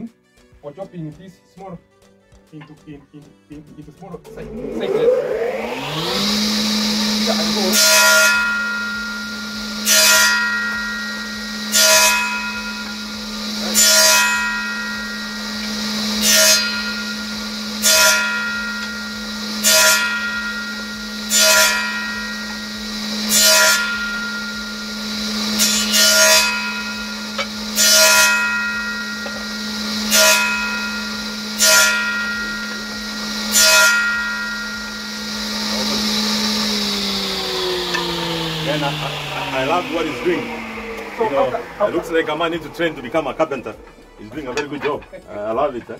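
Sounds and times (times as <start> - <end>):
circular saw cutting timber: 2.5 - 45.9
saw motor humming: 4.1 - 45.9.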